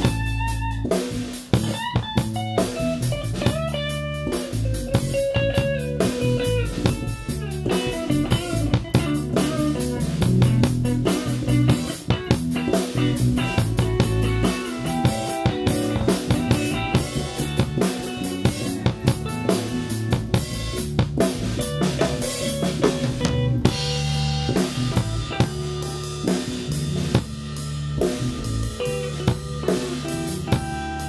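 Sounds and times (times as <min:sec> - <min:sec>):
drum kit: 0:00.0 - 0:31.0
electric bass: 0:00.0 - 0:31.0
electric guitar lead: 0:00.0 - 0:31.0.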